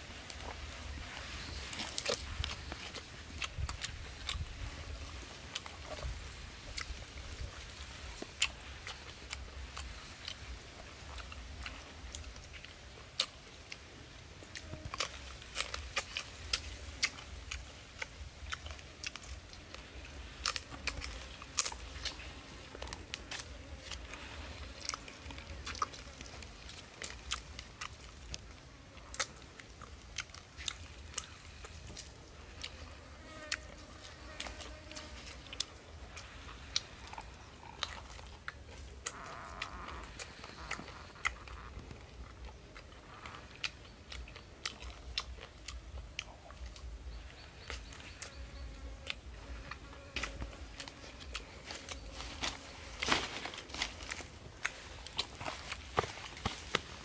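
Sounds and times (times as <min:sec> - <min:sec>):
person chewing crunchy food: 0:00.3 - 0:57.0.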